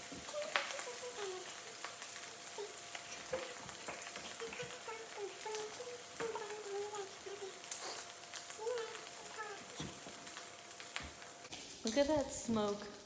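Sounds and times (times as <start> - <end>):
bacon sizzling in a skillet: 0.0 - 13.0
fat crackling and popping: 0.0 - 13.0.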